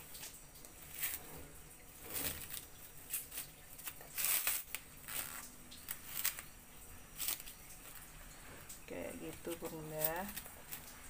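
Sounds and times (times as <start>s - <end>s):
cling film crinkling: 0.0s - 11.0s.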